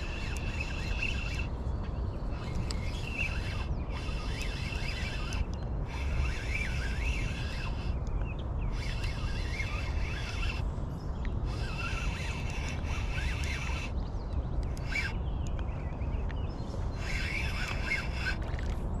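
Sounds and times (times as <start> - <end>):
fishing reel gears whirring: 0.0 - 15.2, 16.8 - 19.0
low rumble of wind: 0.0 - 19.0.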